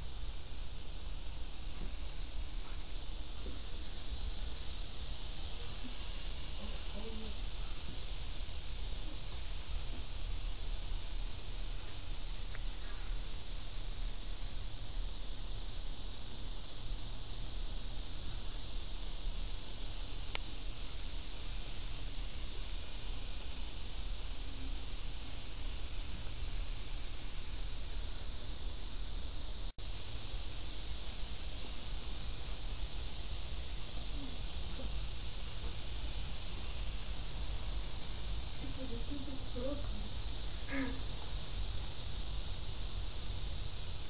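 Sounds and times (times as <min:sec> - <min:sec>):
night insects chorus: 0:00.0 - 0:44.0.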